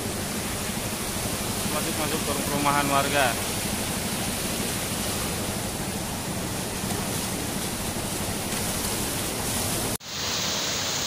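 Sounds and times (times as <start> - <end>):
floodwater rushing over a weir: 0.0 - 11.0.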